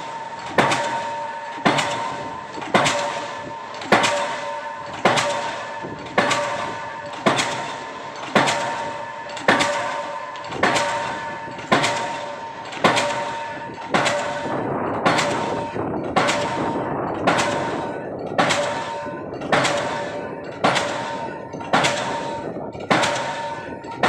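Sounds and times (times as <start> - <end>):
metallic ringing: 0.0 - 14.6, 15.4 - 24.0
pile hammer metallic blows: 0.0 - 24.0.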